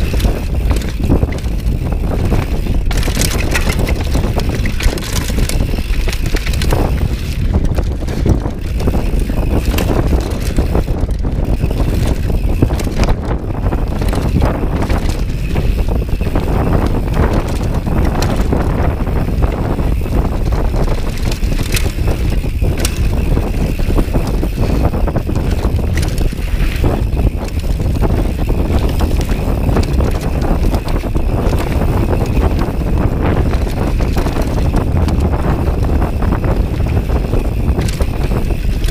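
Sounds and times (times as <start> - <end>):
bike rattling and knocking: 0.0 - 38.9
tyres rumbling on dirt: 0.0 - 38.9
wind buffeting microphone: 0.0 - 38.9.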